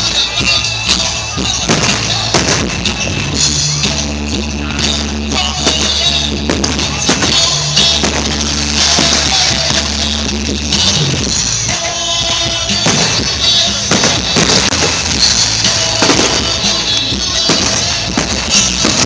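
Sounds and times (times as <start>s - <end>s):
held bass notes: 0.0s - 19.0s
rock music: 0.0s - 19.0s
steady drum beat: 0.0s - 19.0s.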